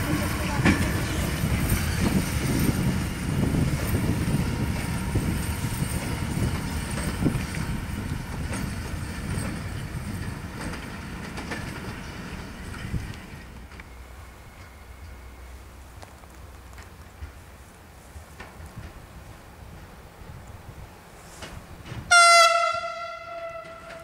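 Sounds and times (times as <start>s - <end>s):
locomotives rumbling on track: 0.0s - 24.0s.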